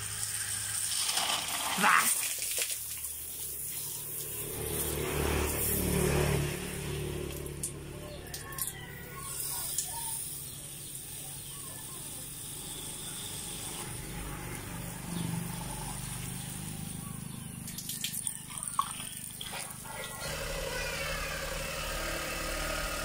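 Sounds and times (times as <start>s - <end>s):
water spraying from hose nozzle: 0.0s - 23.0s.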